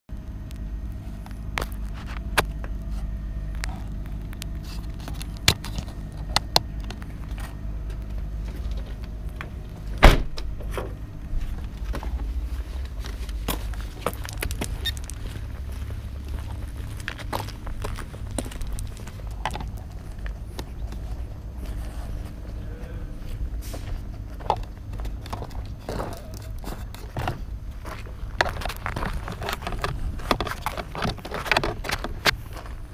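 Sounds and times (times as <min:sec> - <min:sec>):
steady low rumble: 0:00.1 - 0:32.9.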